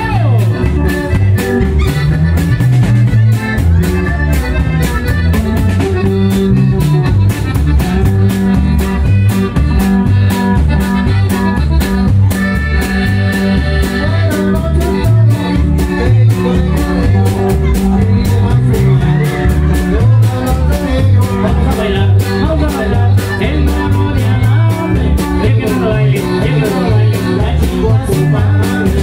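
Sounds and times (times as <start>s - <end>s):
bass line: 0.0s - 29.0s
drum kit beats: 0.0s - 29.0s
electric guitar: 0.0s - 29.0s
live band playing: 0.0s - 29.0s.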